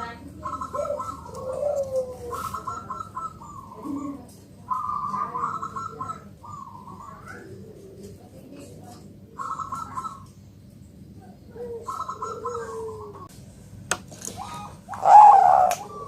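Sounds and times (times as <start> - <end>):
dove cooing: 0.0 - 10.3, 11.2 - 13.3, 14.3 - 16.0.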